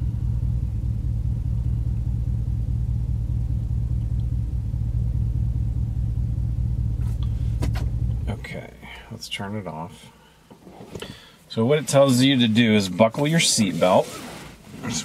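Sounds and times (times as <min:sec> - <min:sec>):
engine idling inside cab: 0:00.0 - 0:15.0.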